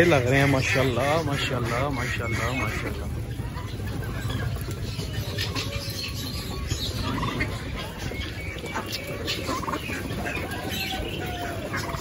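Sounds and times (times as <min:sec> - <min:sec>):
caged birds calling and chirping: 0:00.0 - 0:12.0.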